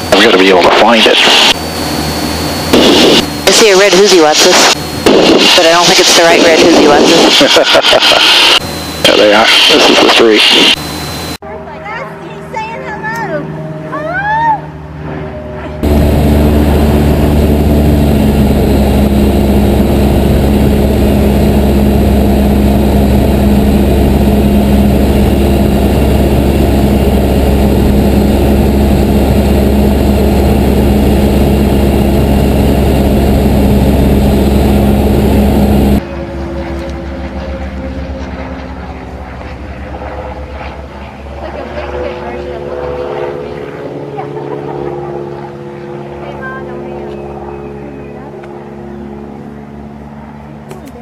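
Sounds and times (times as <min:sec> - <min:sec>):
airplane engine and propeller droning: 0:00.0 - 0:51.0.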